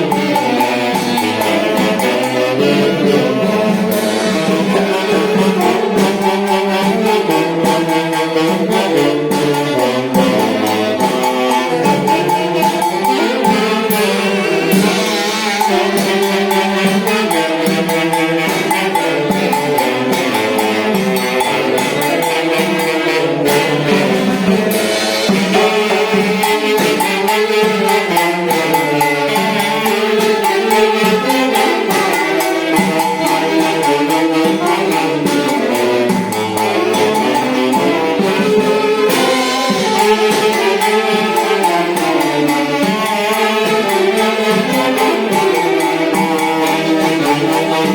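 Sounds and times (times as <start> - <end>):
folk dance band music: 0.0 - 47.9
steady percussion beat: 0.0 - 47.9
wind instruments melody: 0.0 - 47.9.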